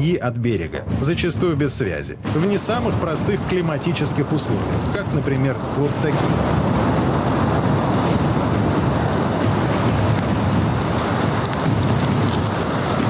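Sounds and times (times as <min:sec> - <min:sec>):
deep rumble: 0:00.0 - 0:13.0
wind rushing over microphone: 0:00.0 - 0:13.0
heavy seas washing over deck: 0:00.6 - 0:13.0.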